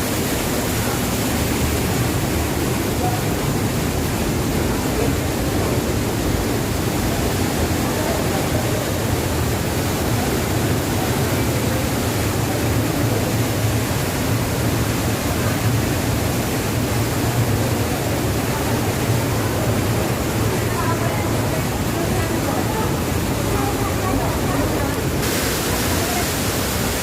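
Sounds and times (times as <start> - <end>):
waterfall splashing: 0.0 - 27.0.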